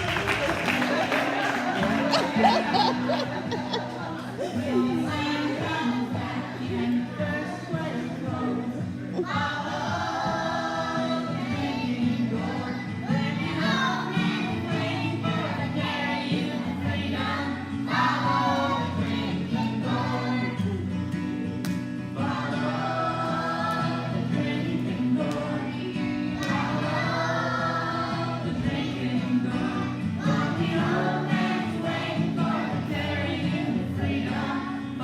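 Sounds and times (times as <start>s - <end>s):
choir singing gospel: 0.0s - 20.8s, 22.1s - 35.0s.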